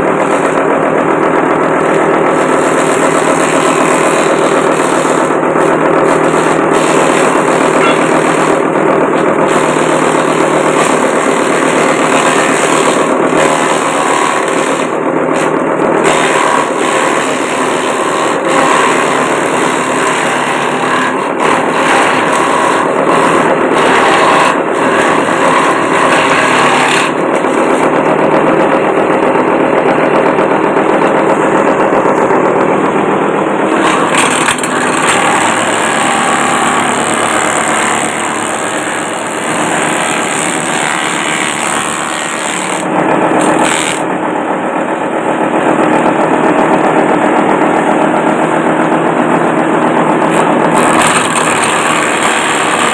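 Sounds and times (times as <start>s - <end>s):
chopping machine running: 0.0s - 52.9s
grass being shredded: 0.0s - 52.9s.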